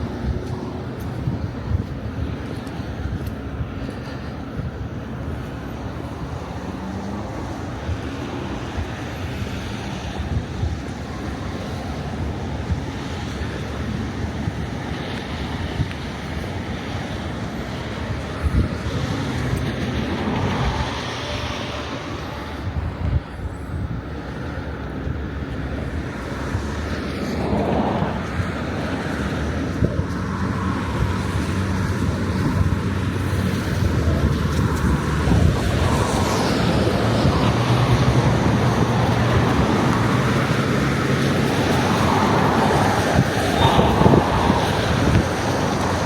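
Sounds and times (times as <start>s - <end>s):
road traffic: 0.0s - 46.0s
vehicle engine hum: 0.0s - 46.0s
wind buffeting microphone: 0.0s - 46.0s.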